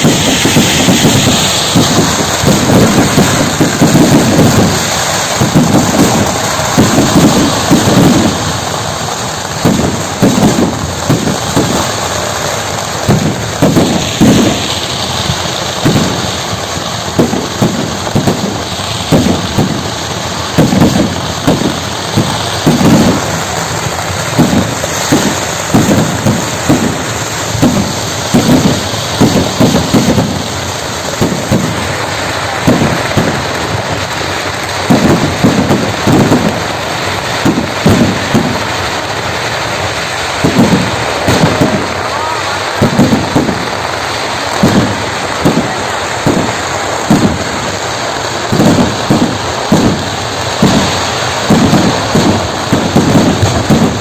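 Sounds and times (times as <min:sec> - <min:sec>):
fireworks booming: 0:00.0 - 0:54.0
fireworks crackling hiss: 0:00.0 - 0:54.0.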